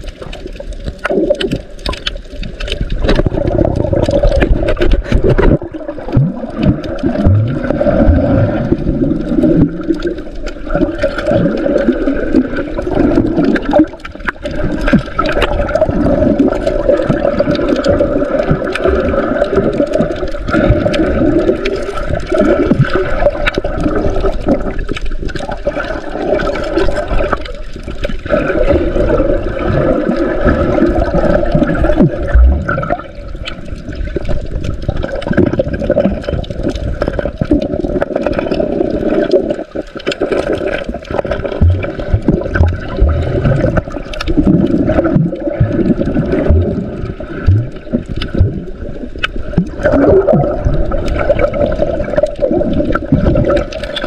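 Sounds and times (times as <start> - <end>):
muffled underwater water sloshing: 0.0 - 54.0.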